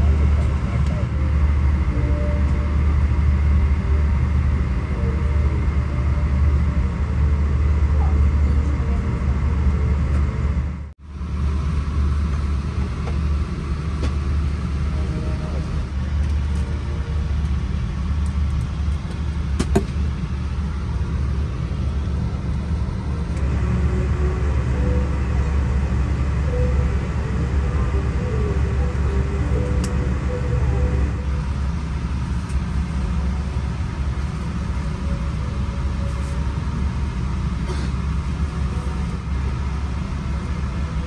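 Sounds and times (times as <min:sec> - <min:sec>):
low rumble inside a vehicle: 0:00.0 - 0:41.0.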